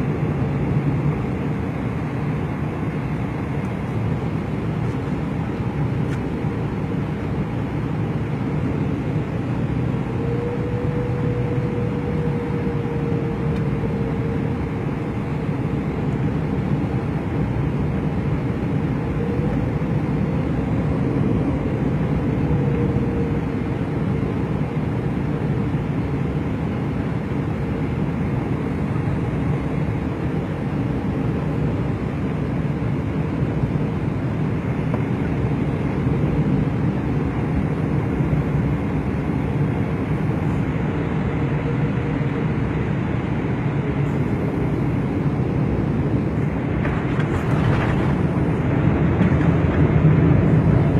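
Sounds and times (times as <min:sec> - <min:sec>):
airliner cabin rumble: 0:00.0 - 0:50.9
faint wavering whine: 0:00.0 - 0:50.9.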